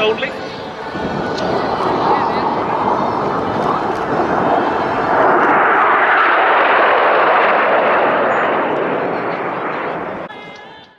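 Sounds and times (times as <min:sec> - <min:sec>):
jets roaring past: 0:00.0 - 0:10.5.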